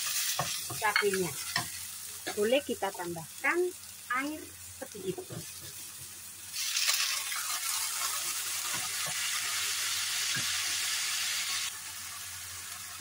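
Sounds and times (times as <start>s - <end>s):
water sizzling in hot wok: 0.0s - 13.0s.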